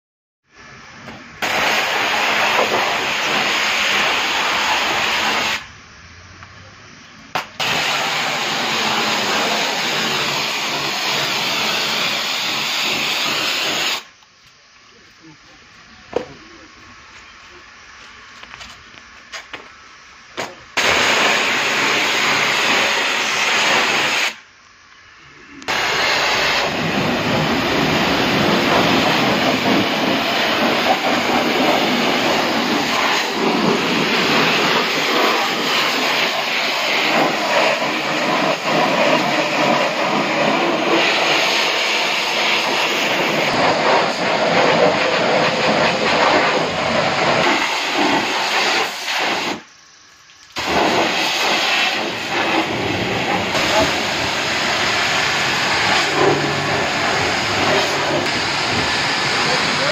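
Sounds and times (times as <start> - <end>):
pressure washer spraying: 1.4 - 5.7, 7.3 - 14.2, 20.4 - 24.5, 25.7 - 49.7, 50.4 - 59.9.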